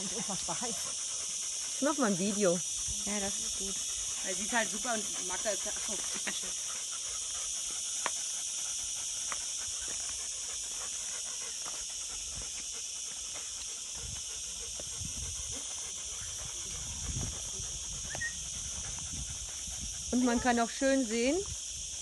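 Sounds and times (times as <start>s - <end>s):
dogs panting: 0.0s - 22.0s
steady high hiss: 0.0s - 22.0s.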